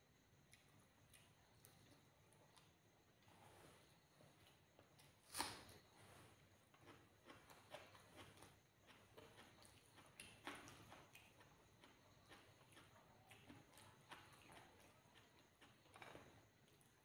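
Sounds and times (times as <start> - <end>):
quiet chewing: 0.2 - 17.0.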